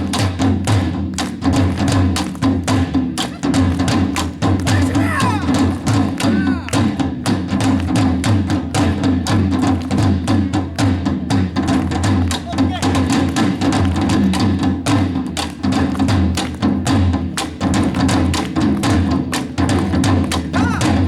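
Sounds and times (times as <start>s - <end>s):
percussion ensemble drumming: 0.0s - 21.0s.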